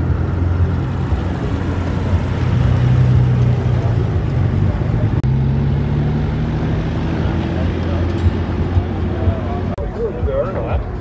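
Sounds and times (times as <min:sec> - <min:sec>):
car engines driving past: 0:00.0 - 0:09.8.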